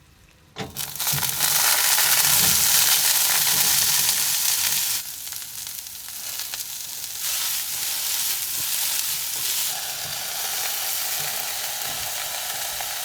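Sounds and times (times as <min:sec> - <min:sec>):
stir fry sizzling in a pan: 0:00.7 - 0:13.0.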